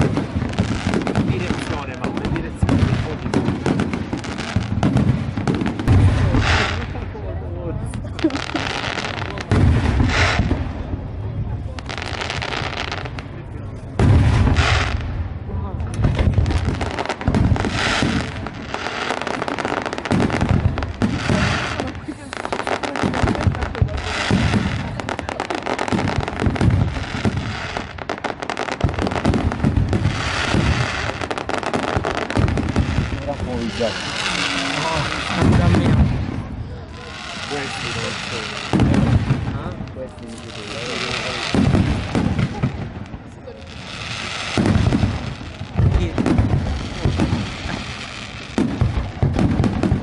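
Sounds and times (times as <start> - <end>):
fireworks bangs and pops: 0.0 - 50.0.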